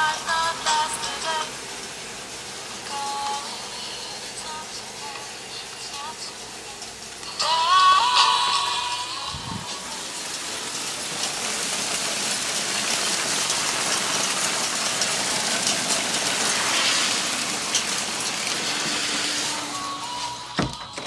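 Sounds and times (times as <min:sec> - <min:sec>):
hailstones ticking: 0:00.0 - 0:20.8
heavy rain: 0:00.0 - 0:20.8.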